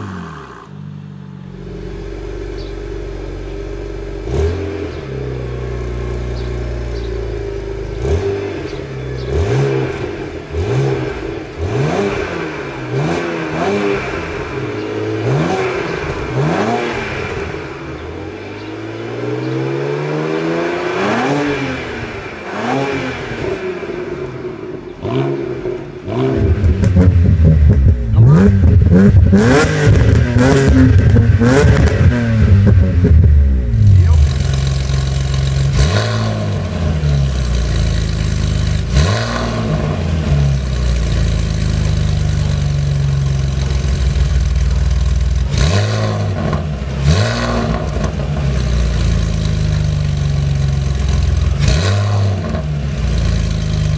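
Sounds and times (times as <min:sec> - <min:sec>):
car engine revving: 0:00.0 - 0:53.9
loud car exhaust rev blips: 0:01.5 - 0:53.9.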